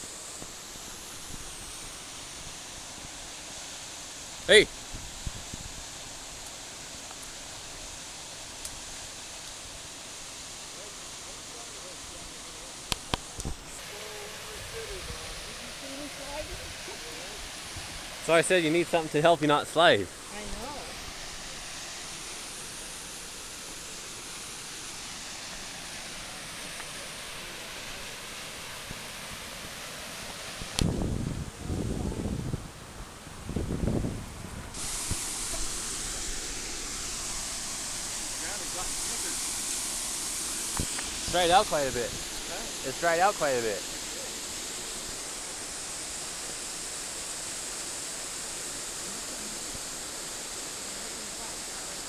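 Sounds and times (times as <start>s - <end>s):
waterfall rushing: 0.0s - 31.6s, 34.5s - 52.0s.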